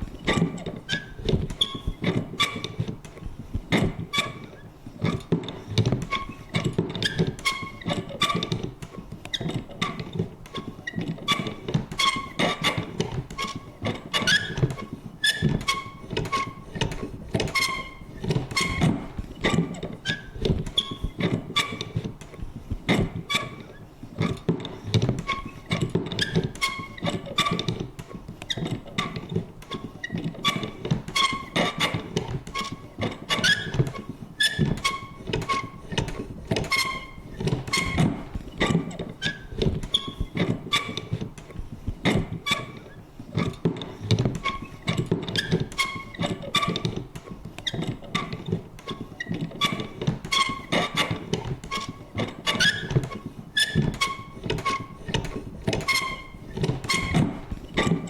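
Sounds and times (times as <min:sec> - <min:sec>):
squeaks and creaks of punch: 0:00.0 - 0:58.0.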